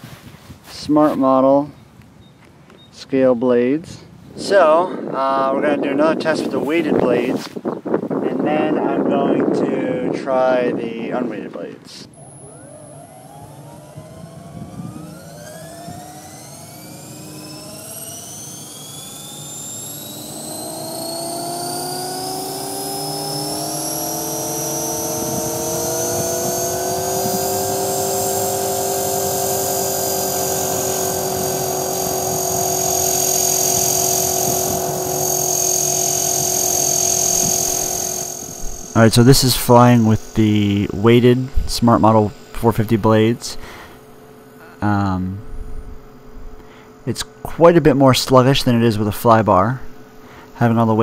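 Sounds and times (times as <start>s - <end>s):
rc helicopter motor and rotor whine: 4.4s - 51.0s.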